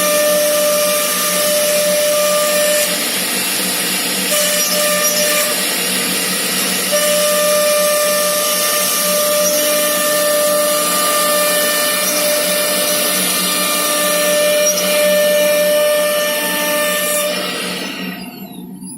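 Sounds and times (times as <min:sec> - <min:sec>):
router spindle whine: 0:00.0 - 0:18.9.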